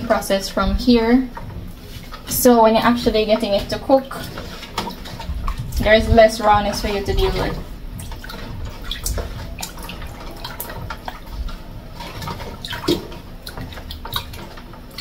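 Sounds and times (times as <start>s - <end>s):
water splashes and drips: 0.0s - 15.0s
hands sloshing meat in water: 0.7s - 15.0s.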